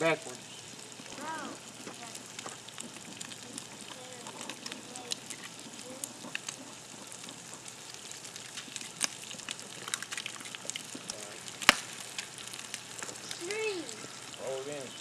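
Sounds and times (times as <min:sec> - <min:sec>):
sausage and eggs sizzling: 0:00.0 - 0:15.0.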